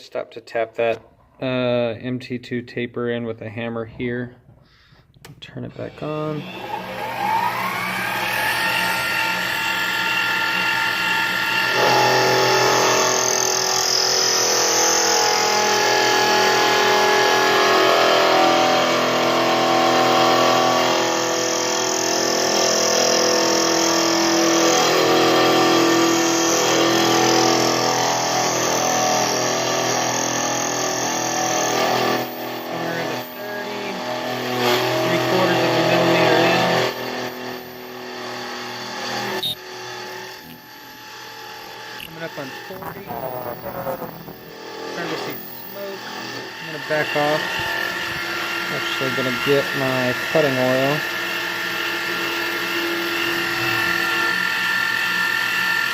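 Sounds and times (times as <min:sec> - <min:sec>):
lathe tool cutting metal: 0:05.8 - 0:55.9
metal lathe motor whining: 0:05.9 - 0:55.9.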